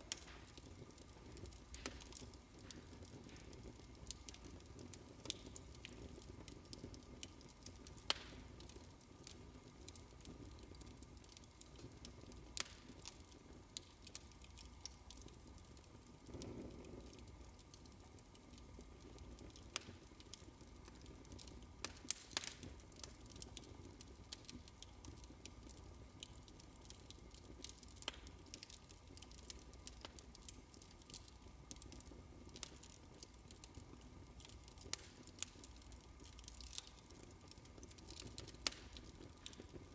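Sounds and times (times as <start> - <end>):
fireplace crackling: 0.0 - 39.9
low fire rumble: 0.0 - 39.9.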